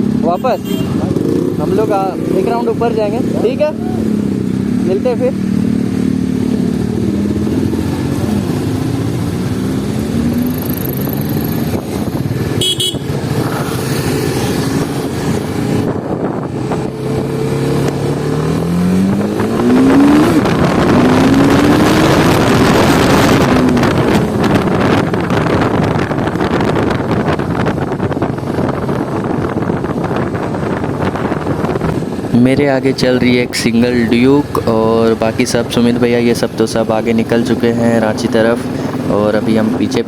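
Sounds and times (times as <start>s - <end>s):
motorcycle engine accelerating: 0.0s - 40.0s
wind noise: 5.6s - 40.0s.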